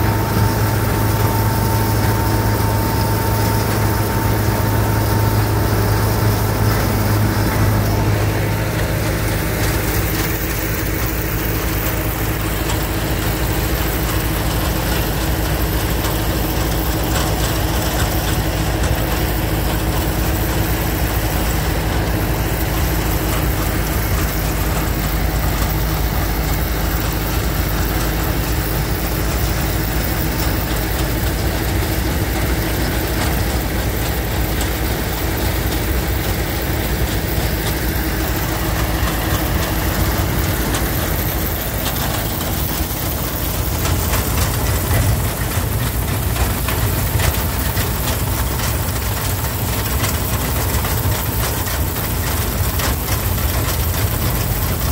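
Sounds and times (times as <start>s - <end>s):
engine running with low hum: 0.0s - 54.9s.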